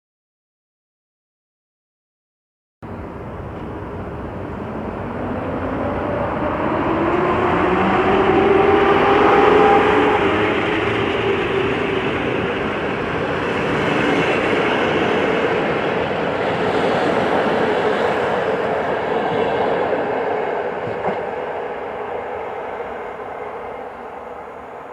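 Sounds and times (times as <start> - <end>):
train rail and wheel noise: 2.8 - 24.9.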